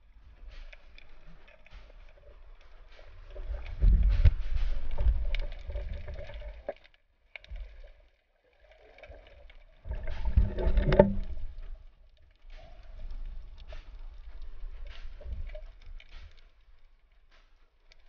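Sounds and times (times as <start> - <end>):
underwater rumbling and sloshing: 0.0 - 18.0.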